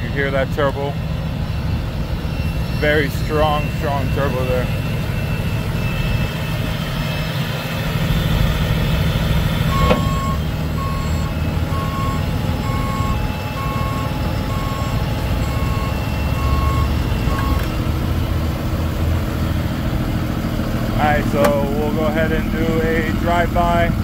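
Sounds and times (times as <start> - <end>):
diesel engine idling: 0.0 - 24.0
electronic warning beeper: 0.8 - 18.5, 20.9 - 24.0.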